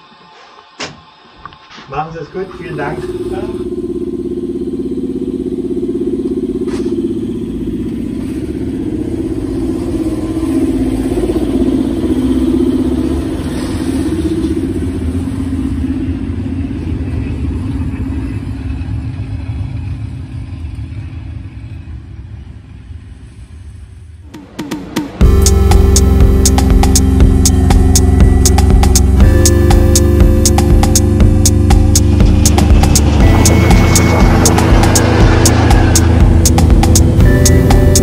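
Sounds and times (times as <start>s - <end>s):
electric railcar hum and rumble: 0.0s - 38.0s.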